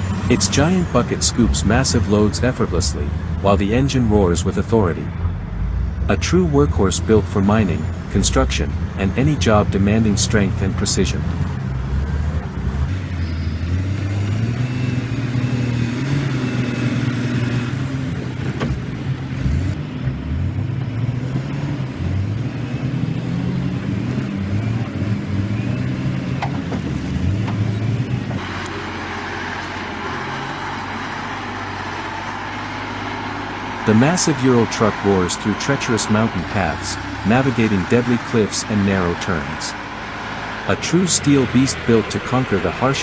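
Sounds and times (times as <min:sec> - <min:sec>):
heavy diesel engine working: 0:00.0 - 0:43.0.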